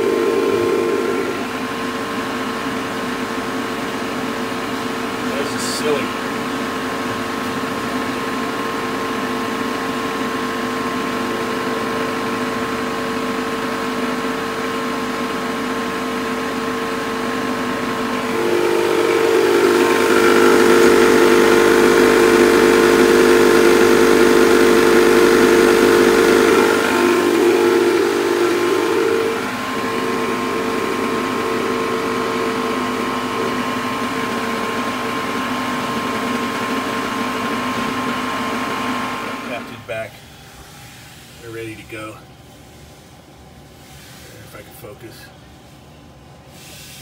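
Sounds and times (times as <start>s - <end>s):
refrigerant recovery machine humming: 0.0s - 47.0s.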